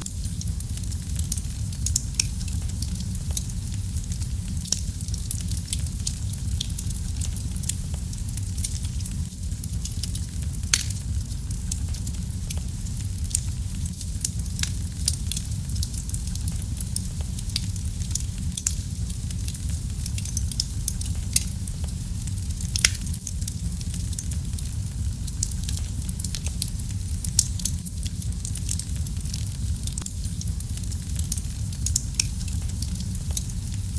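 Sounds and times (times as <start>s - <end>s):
wood fire burning: 0.0s - 33.9s.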